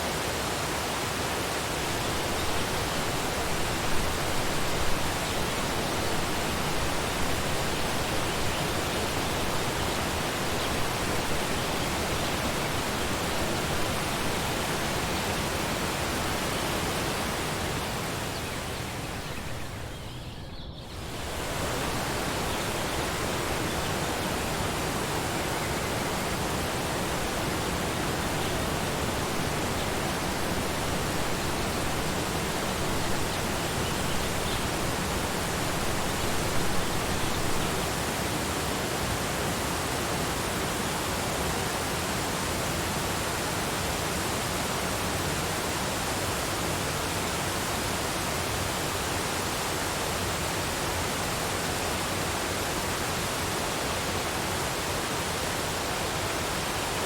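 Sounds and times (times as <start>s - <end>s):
waterfall rushing: 0.0s - 19.9s, 21.0s - 57.0s.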